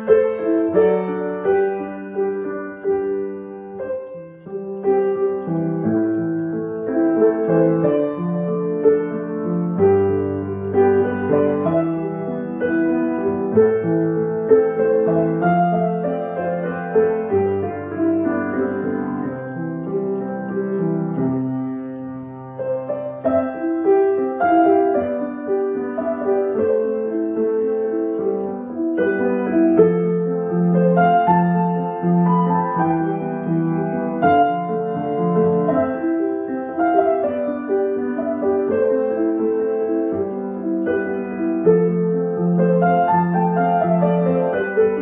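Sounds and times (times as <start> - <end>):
solo piano melody: 0.0 - 45.0.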